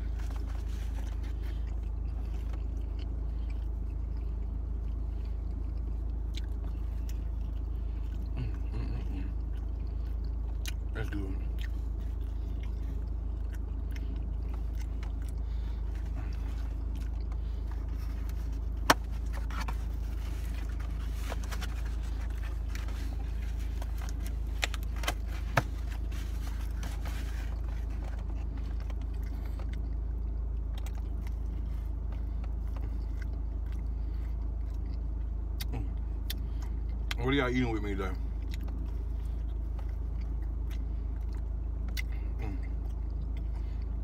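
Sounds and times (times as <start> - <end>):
chewing and biting food: 0.0 - 44.0
low hum: 0.0 - 44.0.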